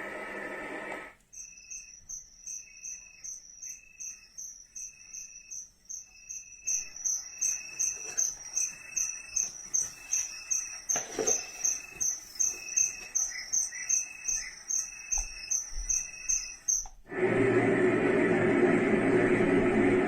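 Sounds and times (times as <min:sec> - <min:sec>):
electronic cricket chirps: 0:00.6 - 0:17.1.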